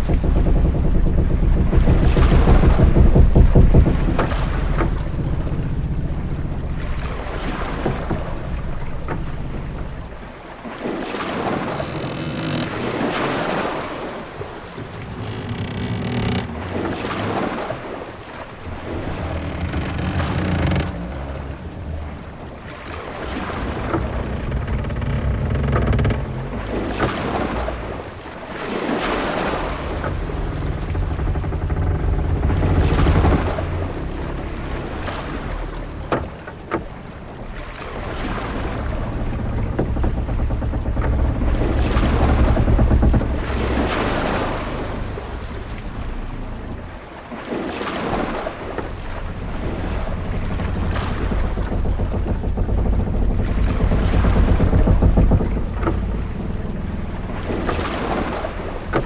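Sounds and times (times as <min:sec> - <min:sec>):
short knocks: 0:00.0 - 0:10.4, 0:11.2 - 0:59.0
low rumble of wind and sea: 0:00.0 - 0:59.0
waves washing against a hull: 0:00.0 - 0:59.0.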